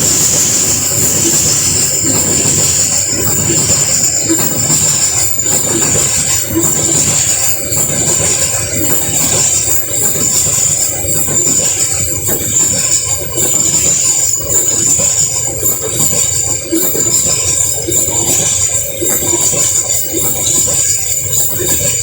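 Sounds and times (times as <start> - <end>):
high whine: 0.0 - 22.0
train wheels rushing on rails: 0.0 - 22.0.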